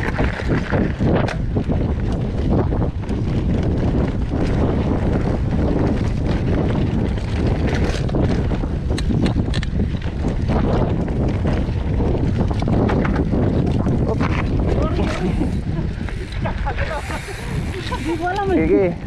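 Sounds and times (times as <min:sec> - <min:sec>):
bike rattling over rough ground: 0:00.0 - 0:19.0
wind buffeting microphone: 0:00.0 - 0:19.0.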